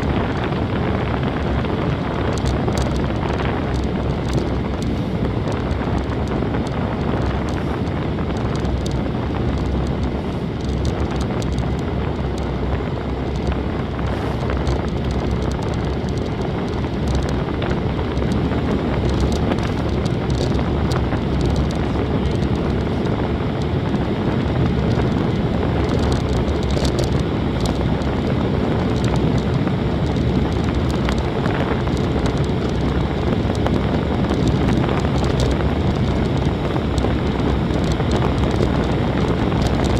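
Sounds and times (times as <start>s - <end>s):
tyres rumbling on road: 0.0s - 39.9s
wind buffeting microphone: 0.0s - 39.9s.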